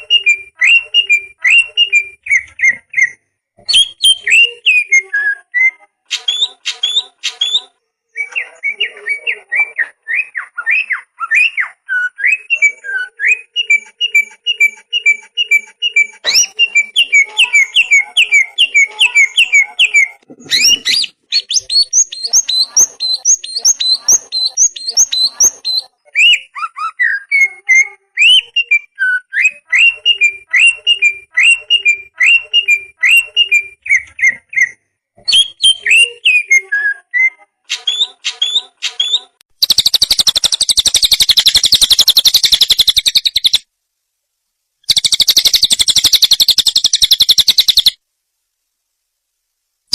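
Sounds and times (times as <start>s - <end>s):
songbird whistling song: 0.0s - 43.6s, 44.9s - 48.0s.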